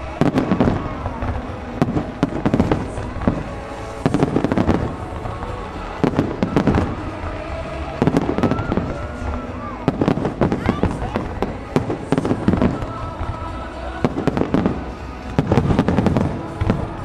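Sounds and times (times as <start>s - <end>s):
continuous rumble: 0.0s - 17.0s.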